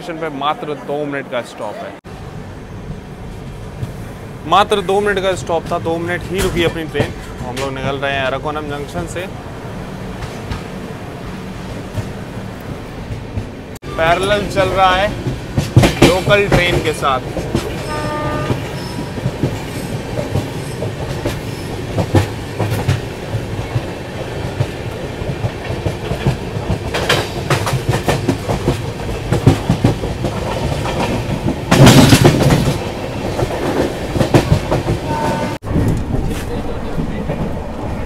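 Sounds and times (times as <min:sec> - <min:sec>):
train coaches rumbling: 0:00.0 - 0:38.0
wheels clacking over rail joints: 0:05.5 - 0:09.4, 0:11.4 - 0:38.0.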